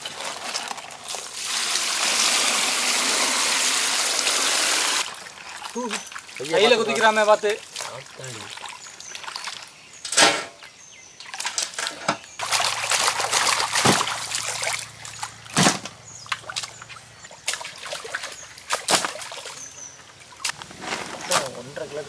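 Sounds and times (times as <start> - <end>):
water splashing in metal tubs: 0.0 - 22.0.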